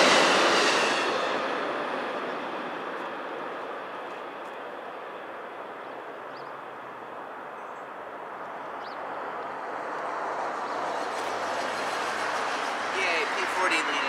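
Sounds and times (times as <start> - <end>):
passenger train rumble: 0.0 - 8.8, 10.2 - 14.0.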